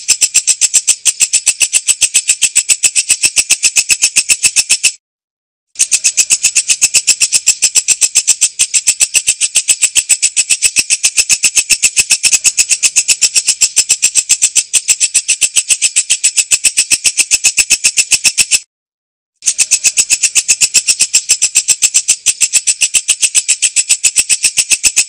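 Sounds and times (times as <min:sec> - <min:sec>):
katydid chirping: 0:00.0 - 0:04.9, 0:05.8 - 0:18.6, 0:19.4 - 0:25.0.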